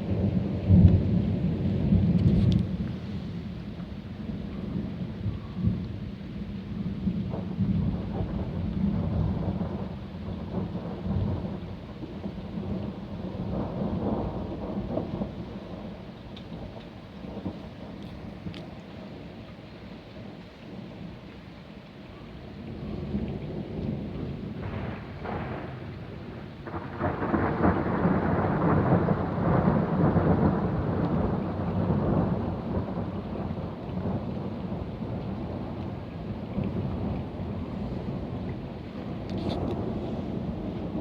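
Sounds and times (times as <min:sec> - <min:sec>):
rolling thunder: 0:00.0 - 0:03.6, 0:04.3 - 0:18.4, 0:22.7 - 0:41.0
rain falling: 0:00.0 - 0:41.0.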